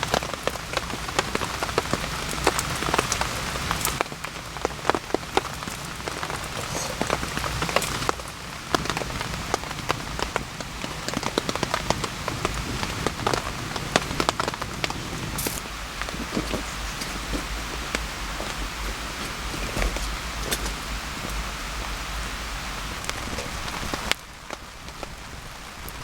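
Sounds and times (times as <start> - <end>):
steady rain in forest: 0.0 - 26.0.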